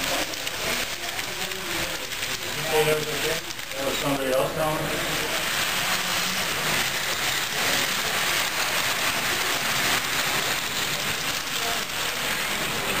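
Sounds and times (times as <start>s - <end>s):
model train wheels rolling: 0.0s - 13.0s.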